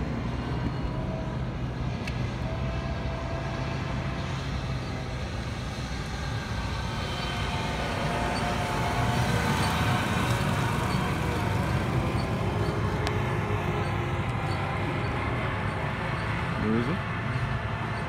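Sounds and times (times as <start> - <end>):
tractor diesel engine with whine: 0.0 - 18.0.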